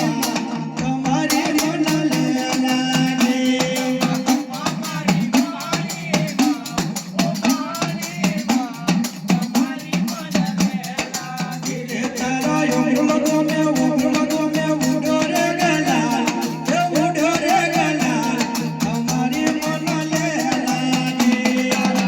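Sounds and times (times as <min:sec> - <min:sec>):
rattling percussion: 0:00.0 - 0:22.0.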